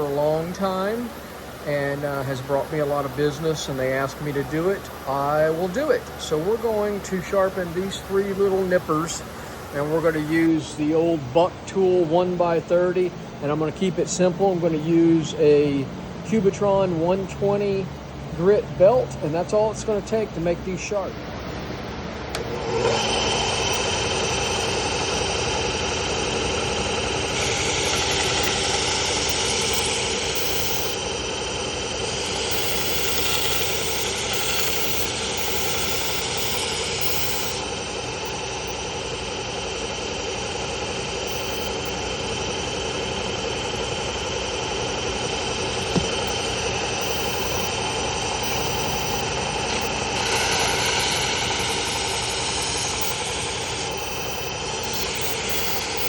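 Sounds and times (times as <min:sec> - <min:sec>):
belt sander running: 0:00.0 - 0:16.2, 0:17.0 - 0:56.0.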